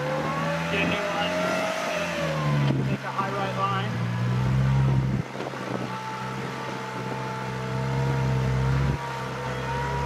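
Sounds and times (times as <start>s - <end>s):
buggy engine running under load: 0.0s - 10.0s.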